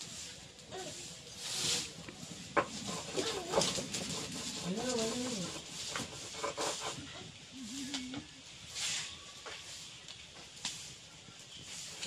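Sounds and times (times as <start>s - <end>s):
batter hissing in hot mould: 0.0s - 12.0s.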